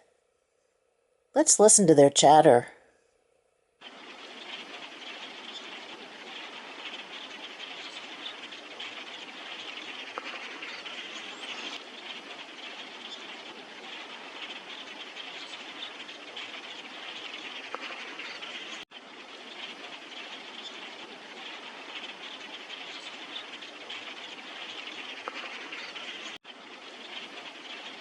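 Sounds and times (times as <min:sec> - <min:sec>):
flock of grackles chattering: 0:03.9 - 0:28.0.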